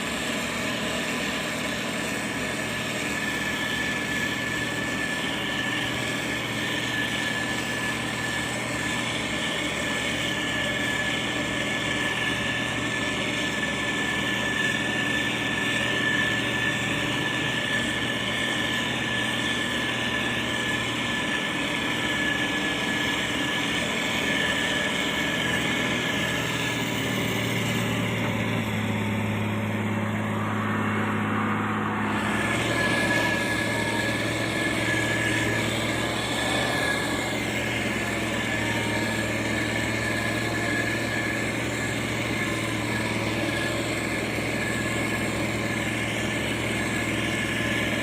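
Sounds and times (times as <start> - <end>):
constant high whine: 0.0 - 48.0
heavy diesel machinery running: 0.0 - 48.0
second higher hum: 0.0 - 48.0.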